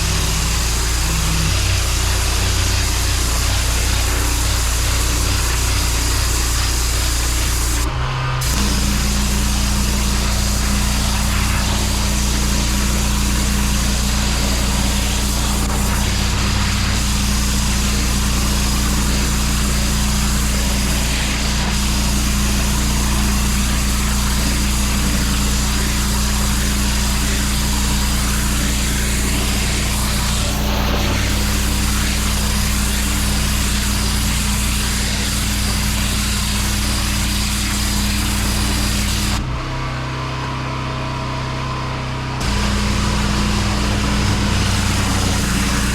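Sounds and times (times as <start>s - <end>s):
water jet hissing on paving: 0.0s - 39.4s, 42.4s - 45.9s
pressure washer engine hum: 0.0s - 40.1s, 41.9s - 45.9s.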